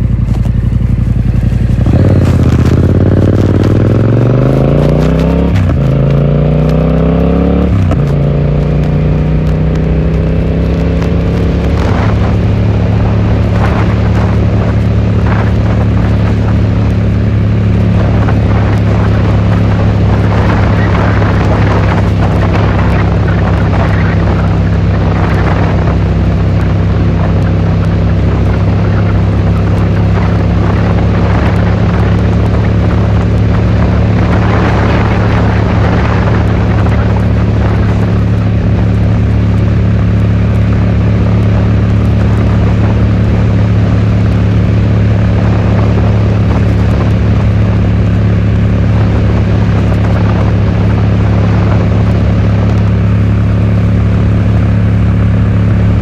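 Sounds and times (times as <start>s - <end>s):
motorcycle engine revving and shifting: 0.0s - 56.0s.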